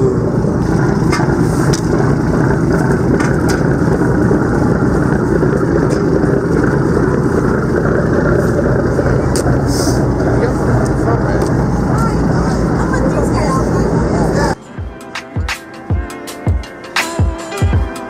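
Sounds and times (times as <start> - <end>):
boat engine rumbling: 0.0 - 15.2.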